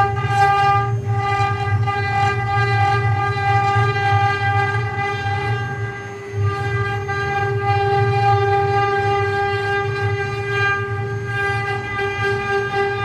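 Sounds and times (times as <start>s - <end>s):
low machine rumble: 0.0s - 13.0s
router spindle whine: 0.0s - 13.0s.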